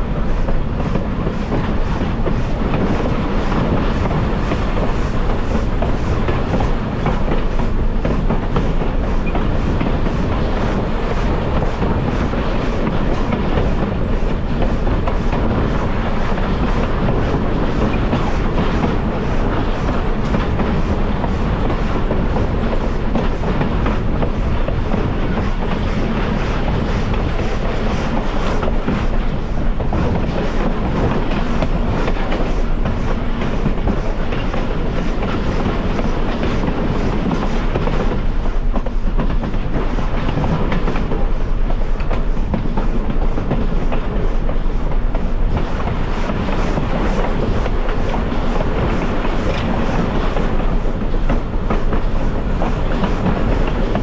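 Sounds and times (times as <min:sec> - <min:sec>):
railroad car rumbling on track: 0:00.0 - 0:54.0.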